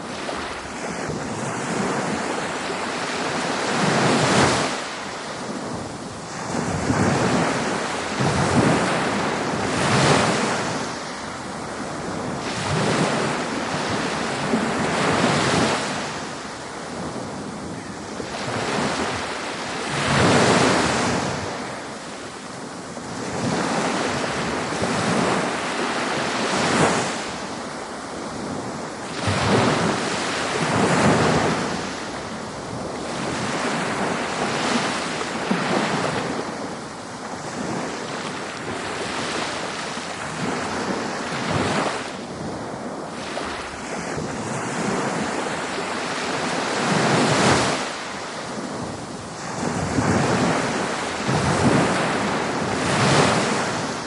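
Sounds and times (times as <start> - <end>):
waves breaking on beach: 0.0 - 54.0
wind: 0.0 - 54.0.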